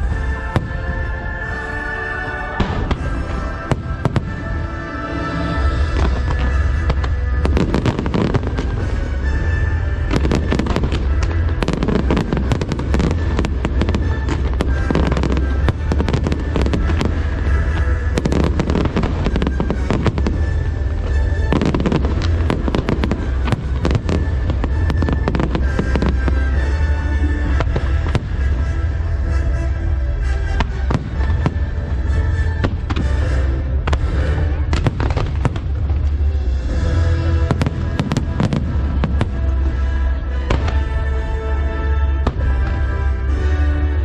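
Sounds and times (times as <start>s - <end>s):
fireworks bursting and crackling: 0.0s - 44.0s.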